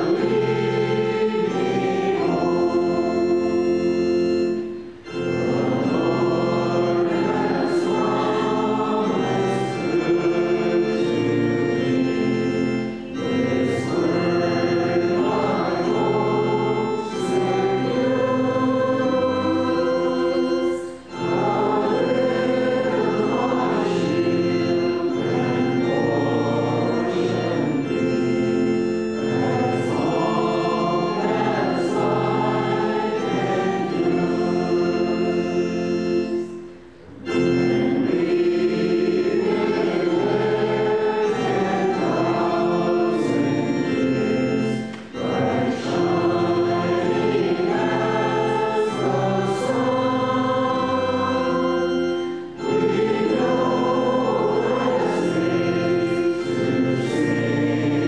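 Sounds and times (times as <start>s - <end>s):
congregation singing a hymn: 0.0s - 58.0s
organ chords: 0.0s - 58.0s.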